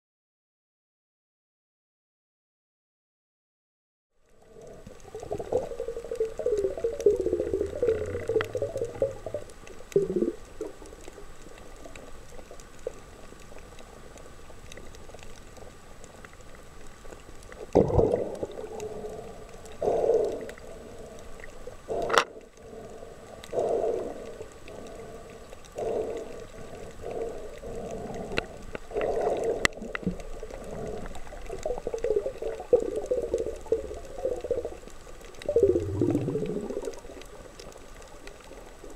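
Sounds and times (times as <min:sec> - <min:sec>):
muffled underwater gurgling: 0:04.3 - 0:16.8, 0:17.4 - 0:38.9.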